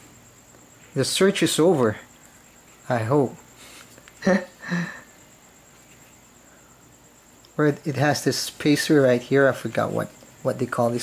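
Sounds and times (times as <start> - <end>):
faint background hiss: 0.0 - 11.0
thin high whine: 0.0 - 11.0.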